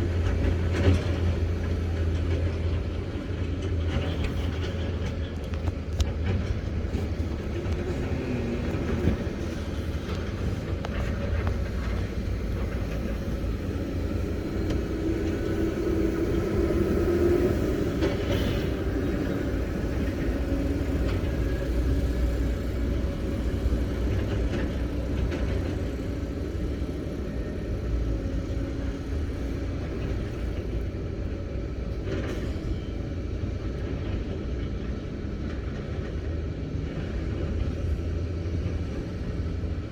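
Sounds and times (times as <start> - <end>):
excavator diesel engine rumble: 0.0 - 39.9.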